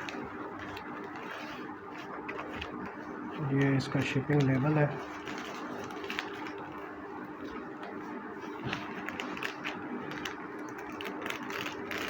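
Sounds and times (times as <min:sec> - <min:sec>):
packaging rustling: 0:00.0 - 0:07.6, 0:08.2 - 0:12.0
faint steady hum: 0:00.0 - 0:12.0.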